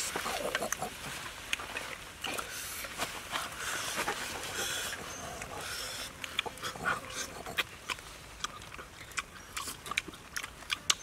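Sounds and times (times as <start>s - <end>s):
lip smacking and chewing: 0.0s - 11.0s.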